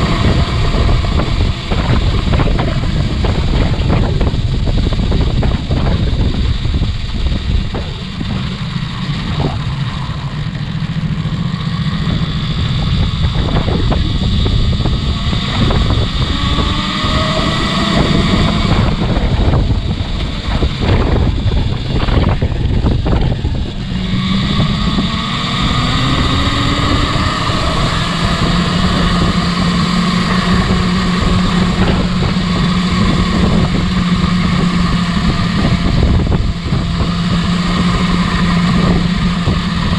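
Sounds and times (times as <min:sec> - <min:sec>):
motorcycle engine accelerating: 0:00.0 - 0:39.9
wind buffeting microphone: 0:00.0 - 0:39.9.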